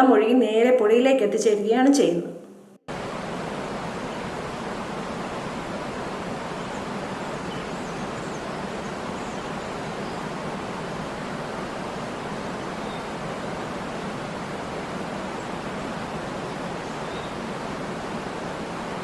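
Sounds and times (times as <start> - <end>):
waterfall rushing: 2.9 - 19.0.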